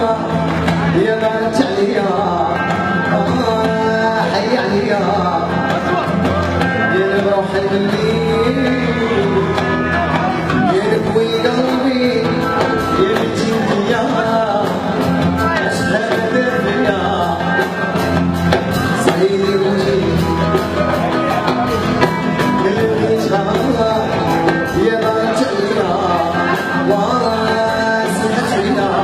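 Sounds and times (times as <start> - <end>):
melodic lead instrument: 0.0 - 29.0
steady percussion beat: 0.0 - 29.0.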